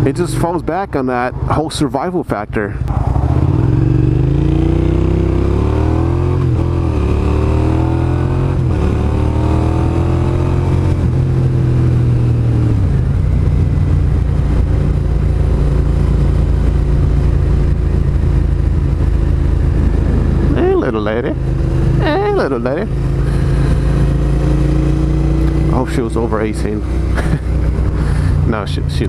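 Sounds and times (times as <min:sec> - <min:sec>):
wind and road noise: 0:00.0 - 0:29.0
motorcycle engine accelerating: 0:02.8 - 0:29.0.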